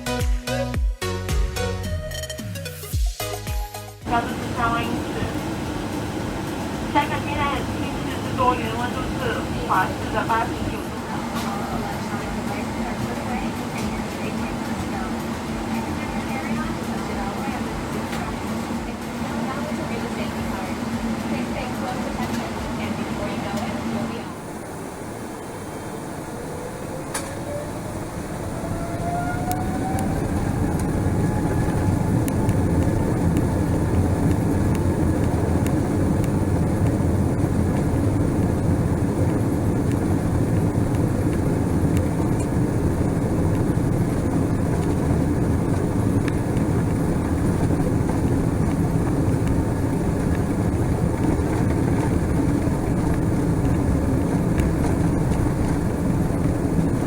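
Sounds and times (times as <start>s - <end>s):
runway rumble: 4.0s - 57.0s
jet engines spooling up: 4.1s - 57.0s.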